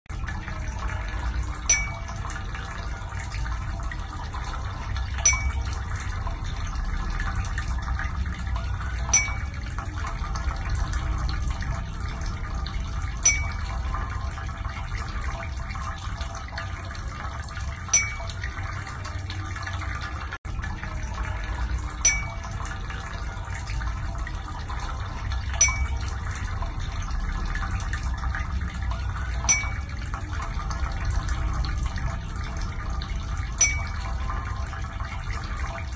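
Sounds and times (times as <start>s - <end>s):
gurgling running water: 0.1s - 35.9s
sharp drip plink: 0.1s - 35.9s.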